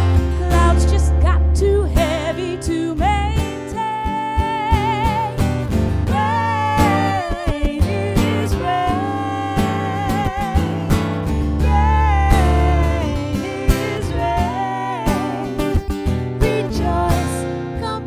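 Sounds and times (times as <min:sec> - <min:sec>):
acoustic guitar: 0:00.0 - 0:18.0
women singing: 0:00.3 - 0:18.0.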